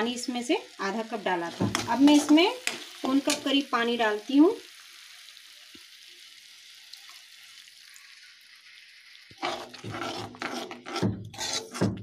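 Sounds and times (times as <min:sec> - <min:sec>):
masala sizzling in hot oil: 0:00.0 - 0:12.0
water splashing and hissing in pan: 0:00.8 - 0:03.6, 0:04.3 - 0:12.0.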